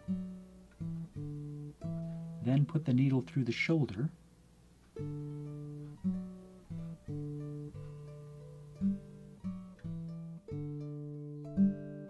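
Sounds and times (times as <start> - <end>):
acoustic guitar picking: 0.0 - 4.1, 4.8 - 12.0.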